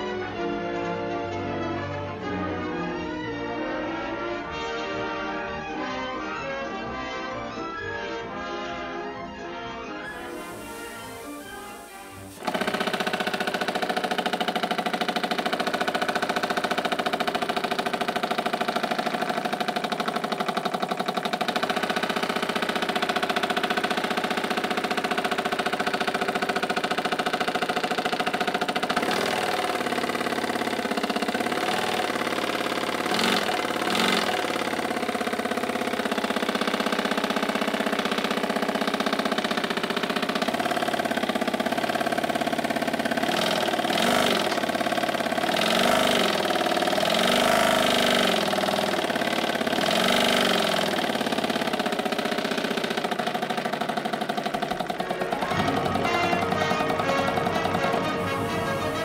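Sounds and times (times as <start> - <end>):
small model engine running fast: 10.0 - 59.0.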